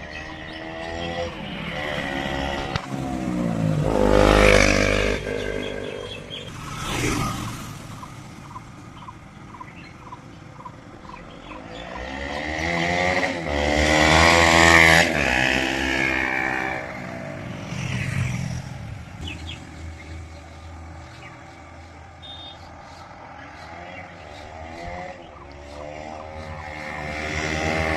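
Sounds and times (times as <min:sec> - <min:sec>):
motorcycle passing by: 0:00.0 - 0:27.9.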